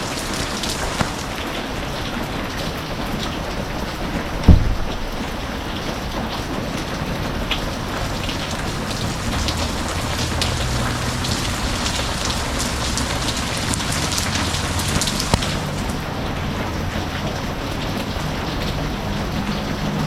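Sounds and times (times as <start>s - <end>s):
rain pattering on a surface: 0.0s - 20.0s.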